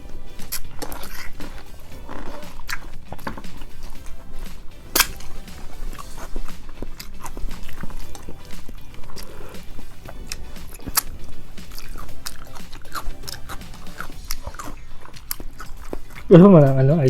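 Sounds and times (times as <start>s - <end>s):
background music: 0.0s - 17.0s
person chewing and biting: 0.3s - 16.3s.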